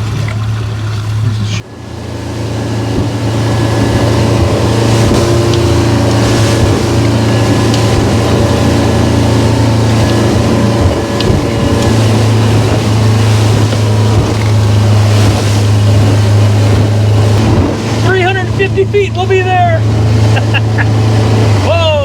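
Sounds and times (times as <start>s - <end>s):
wind noise: 0.0s - 21.7s
motorboat engine running: 0.0s - 22.0s
water noise: 0.0s - 22.0s.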